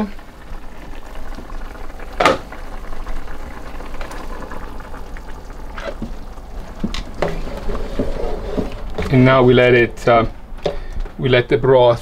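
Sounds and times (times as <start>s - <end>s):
thick liquid pouring: 0.0s - 9.8s
stew simmering: 0.0s - 12.0s.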